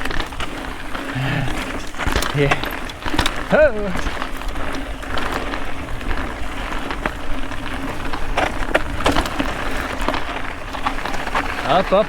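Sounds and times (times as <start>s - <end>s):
bike knocking and rattling: 0.0s - 12.0s
bike tyres grinding over rock: 0.0s - 12.0s.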